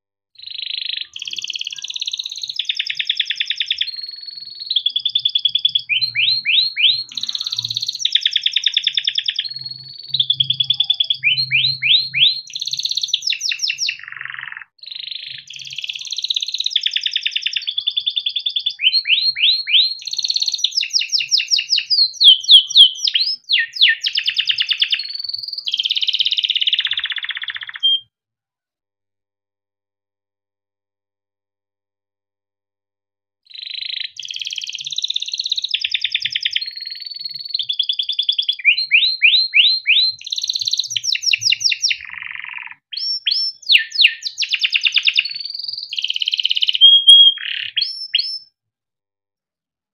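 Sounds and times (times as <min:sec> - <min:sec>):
canary singing trills: 0:00.4 - 0:28.1, 0:33.5 - 0:48.5.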